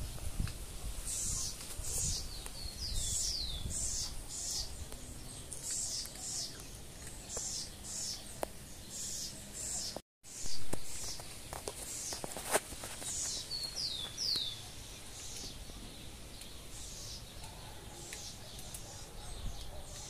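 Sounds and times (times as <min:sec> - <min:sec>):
wren singing: 0:00.9 - 0:20.0.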